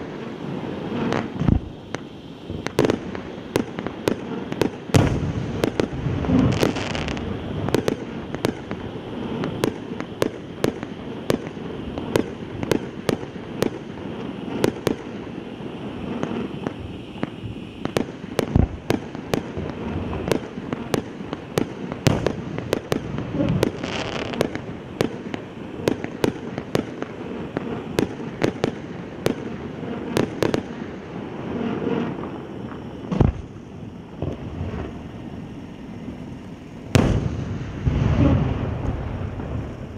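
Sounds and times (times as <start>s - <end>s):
pyrotechnic candles hissing: 0.0s - 39.9s.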